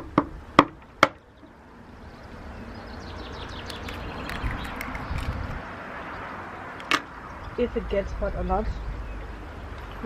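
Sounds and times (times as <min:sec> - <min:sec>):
wind buffeting microphone: 0:01.4 - 0:10.0.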